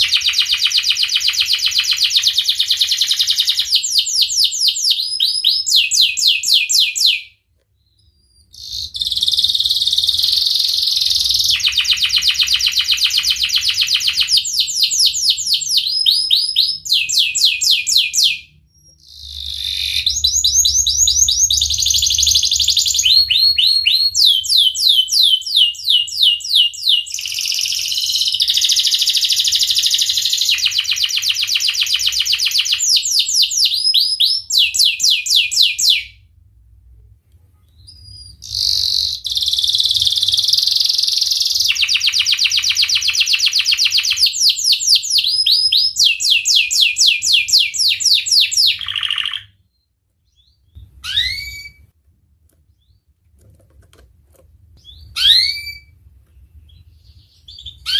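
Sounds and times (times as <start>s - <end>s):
canary singing trills: 0.0s - 36.1s, 37.7s - 51.8s, 54.8s - 57.9s.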